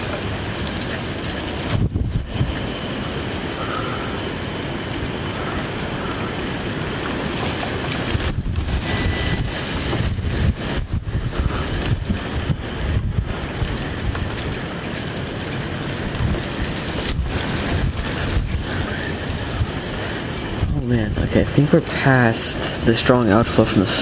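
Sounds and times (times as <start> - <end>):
gusty wind: 0.0 - 24.0
rain against window: 0.0 - 24.0
wind buffeting microphone: 0.0 - 24.0.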